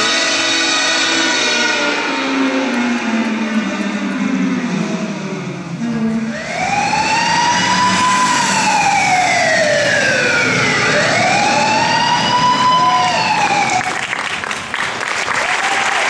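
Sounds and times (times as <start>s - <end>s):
wailing siren sound effect: 0.0s - 14.2s.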